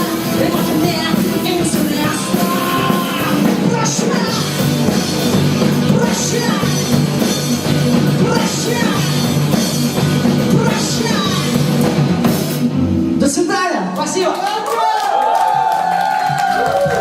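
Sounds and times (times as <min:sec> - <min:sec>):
rock band playing live: 0:00.0 - 0:14.2.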